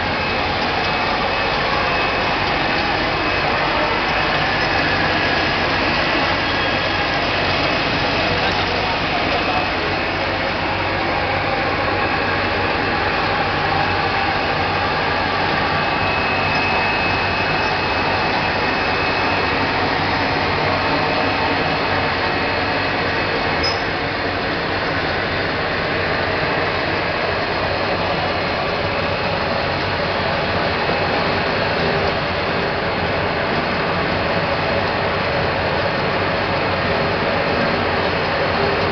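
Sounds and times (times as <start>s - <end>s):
loud steady machine noise: 0.0s - 38.9s.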